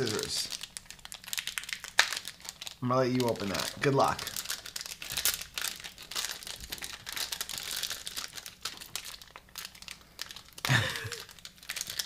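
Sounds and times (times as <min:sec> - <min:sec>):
biting wrapper to tear open: 0:00.0 - 0:12.0
plastic wrapper crinkling: 0:00.0 - 0:12.0.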